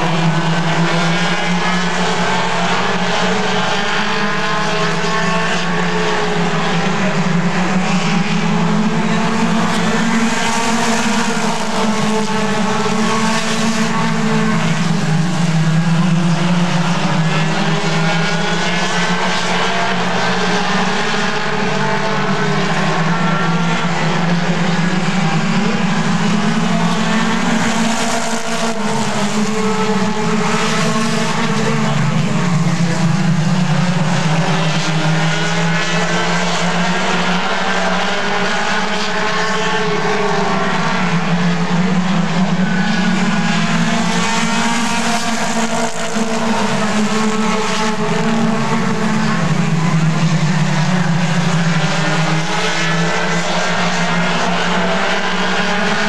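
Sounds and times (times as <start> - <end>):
race car engines droning: 0.0 - 56.0.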